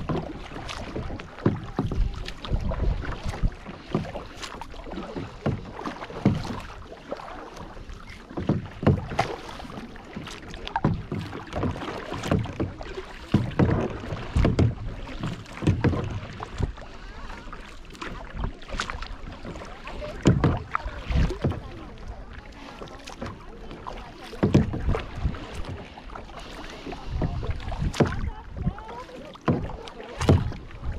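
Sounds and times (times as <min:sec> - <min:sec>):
paddle splashing in water: 0:00.0 - 0:30.9
water lapping against hull: 0:00.0 - 0:30.9.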